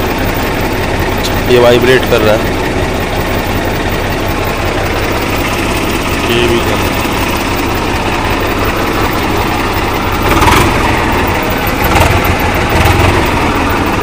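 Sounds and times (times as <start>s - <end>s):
tractor diesel engine rumble: 0.0s - 14.0s.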